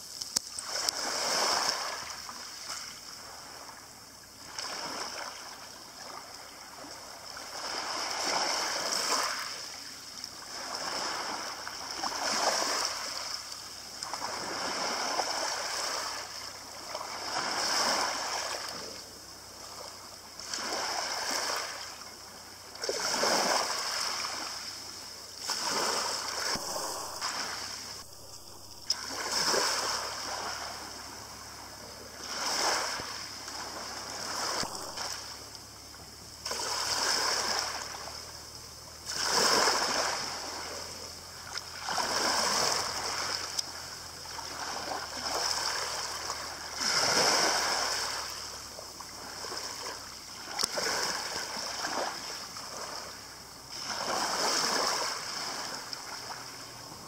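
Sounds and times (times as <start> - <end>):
waves lapping on pebbles: 0.0 - 57.0.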